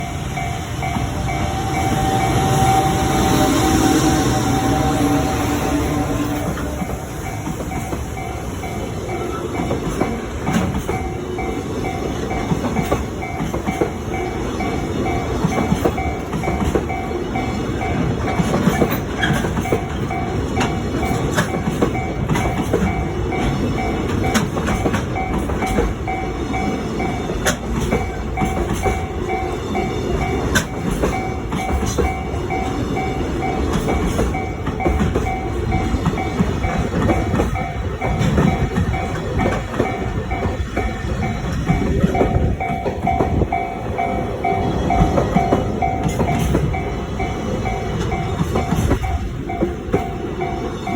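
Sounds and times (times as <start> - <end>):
level-crossing warning bell: 0.0 - 50.9
train wheels clattering: 0.0 - 50.9.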